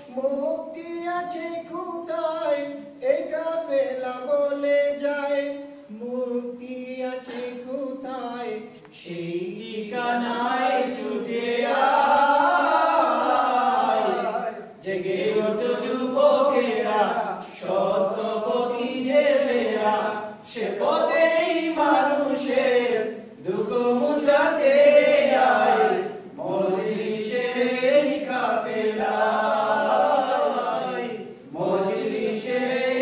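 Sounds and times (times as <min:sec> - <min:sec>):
men singing together unaccompanied: 0:00.0 - 0:33.0.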